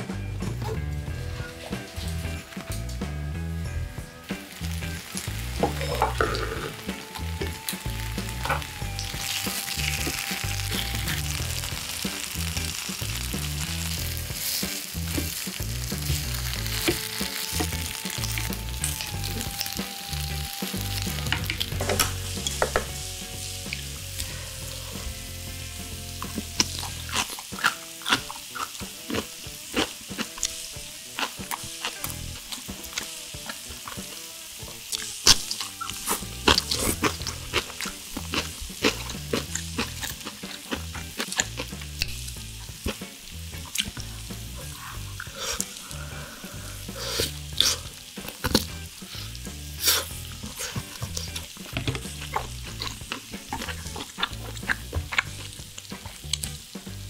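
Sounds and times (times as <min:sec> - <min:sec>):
meat sizzling on grill pan: 0:03.7 - 0:57.0.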